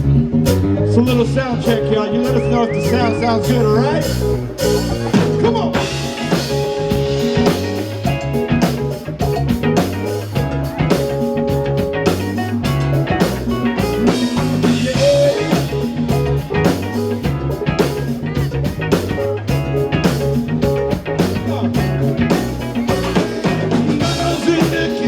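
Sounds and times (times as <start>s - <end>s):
drum kit beat: 0.0s - 25.0s
electric guitar: 0.0s - 25.0s.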